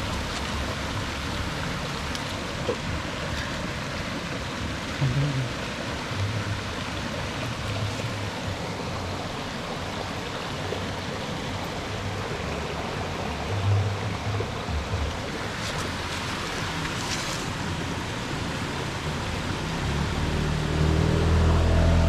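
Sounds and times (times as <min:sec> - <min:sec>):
flowing stream water: 0:00.0 - 0:22.0.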